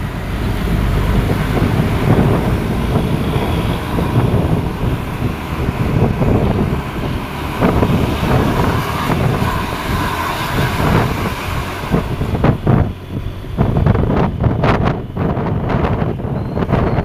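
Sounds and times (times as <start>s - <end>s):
low motor vehicle rumble: 0.0s - 17.0s
wind buffeting microphone: 0.0s - 17.0s.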